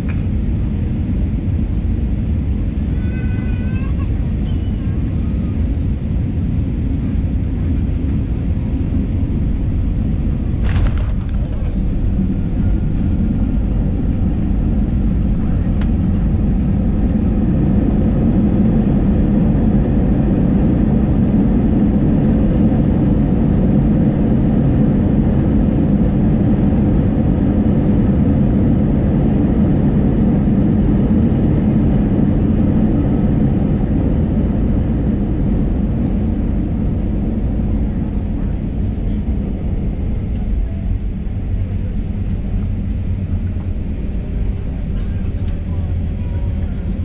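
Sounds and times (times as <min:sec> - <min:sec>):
airliner cabin engine noise: 0:00.0 - 0:47.0.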